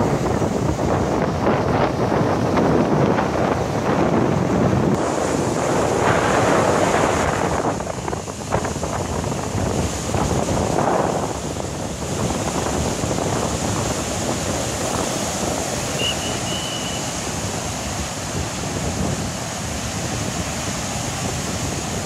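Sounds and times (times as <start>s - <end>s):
waves breaking on sand: 0.0s - 22.0s
wind on microphone: 0.0s - 22.0s.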